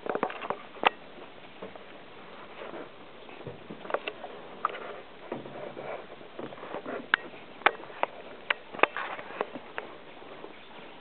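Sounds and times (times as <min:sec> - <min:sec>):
faint rustling: 0:00.0 - 0:11.0.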